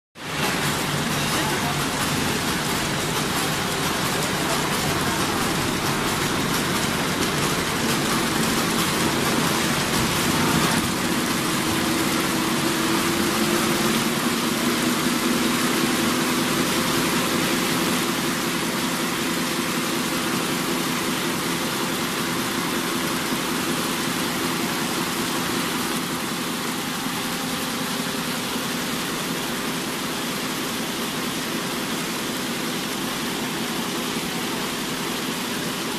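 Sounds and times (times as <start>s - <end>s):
braiding machine running: 0.2s - 35.9s.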